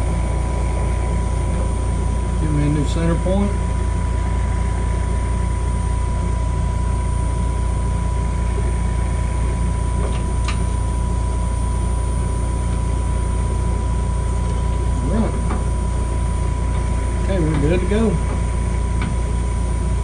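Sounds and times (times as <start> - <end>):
wood lathe humming: 0.0 - 20.0.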